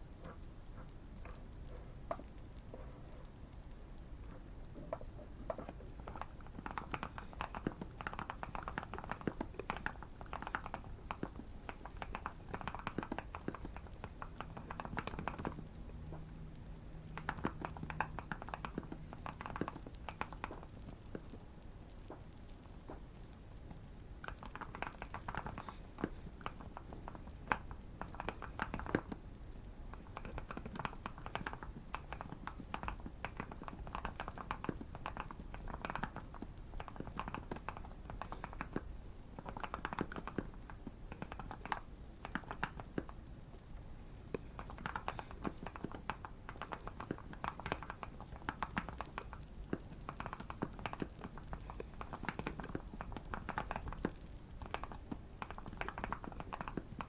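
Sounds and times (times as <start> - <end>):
fireplace crackling: 0.0 - 57.0.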